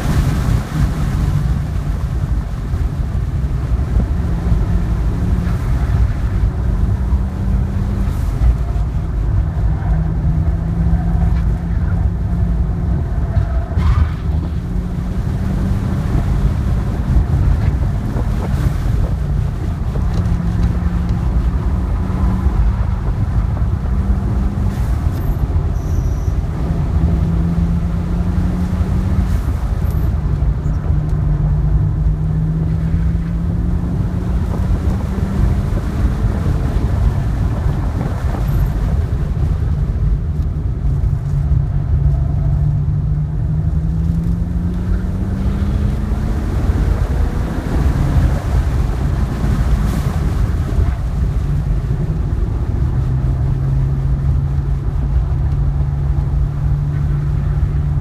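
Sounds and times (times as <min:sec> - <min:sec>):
car engine accelerating: 0:00.0 - 0:58.0
road and wind rumble: 0:00.0 - 0:58.0.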